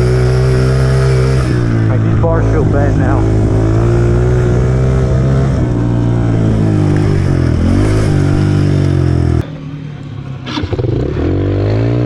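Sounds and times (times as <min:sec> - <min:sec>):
small motorbike engine revving: 0:00.0 - 0:09.4, 0:10.4 - 0:12.0.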